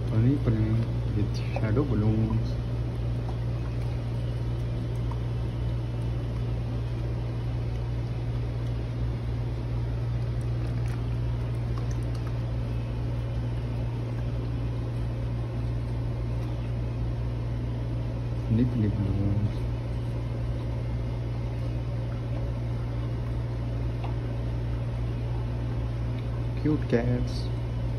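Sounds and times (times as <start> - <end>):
low mechanical hum: 0.0 - 27.9.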